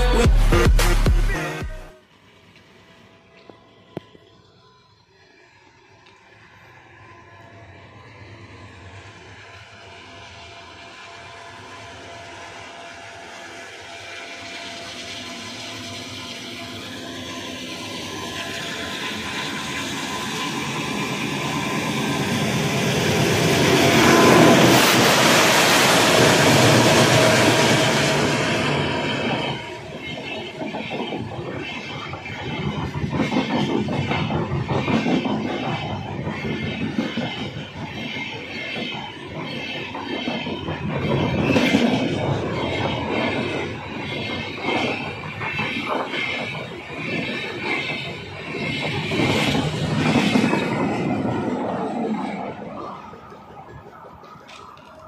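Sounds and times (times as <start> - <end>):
diesel locomotive passing: 1.2 - 55.0
train coaches rolling on rails: 2.0 - 55.0.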